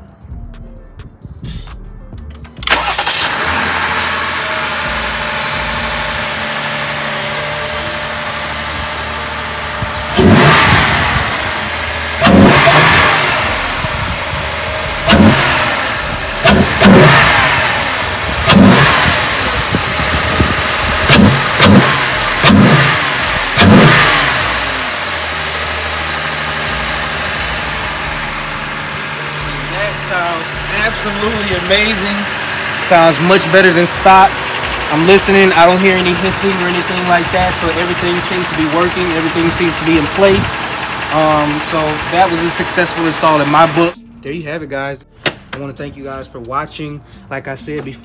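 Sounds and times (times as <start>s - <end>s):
car engine idling and revving: 0.0s - 44.2s.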